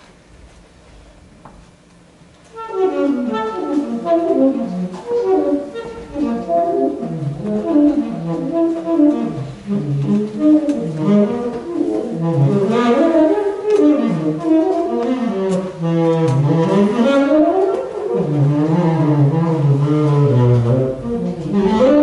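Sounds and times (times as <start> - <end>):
saxophone playing: 2.5 - 22.0.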